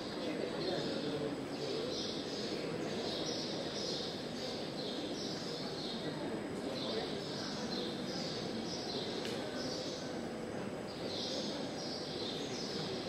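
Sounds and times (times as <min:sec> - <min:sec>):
background murmur: 0:00.0 - 0:13.0.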